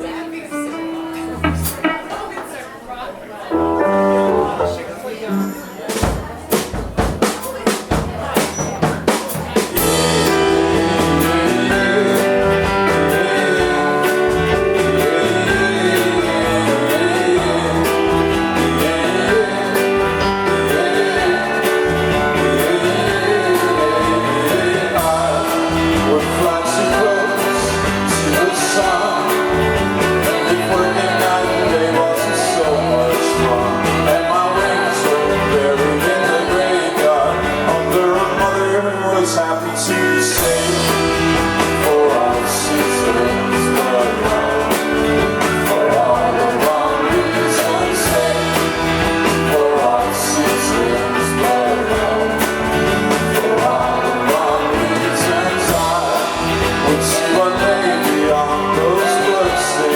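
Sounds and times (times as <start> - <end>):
drums: 0.0 - 2.9, 3.6 - 59.9
rock band playing: 0.5 - 2.6, 3.5 - 59.9.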